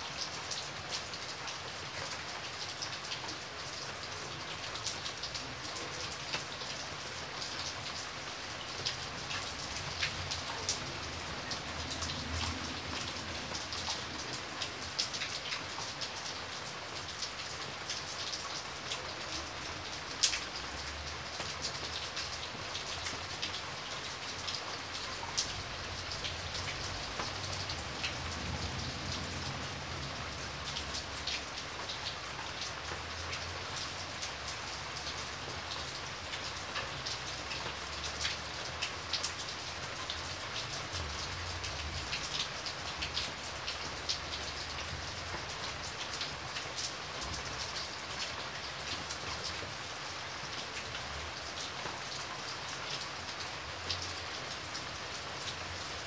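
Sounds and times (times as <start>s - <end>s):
steady rain hiss: 0.0s - 56.0s
raindrops ticking on hard surface: 0.1s - 56.0s.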